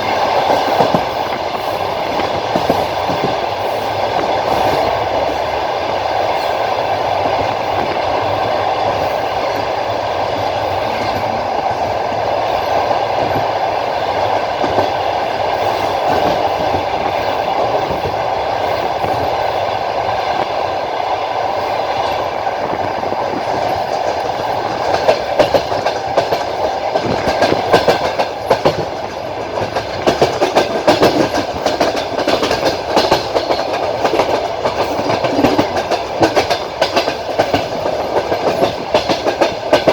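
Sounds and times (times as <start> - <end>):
wheels clacking over rail joints: 0.0 - 19.8, 22.0 - 39.9
train wheels rumbling on rails: 0.0 - 39.9.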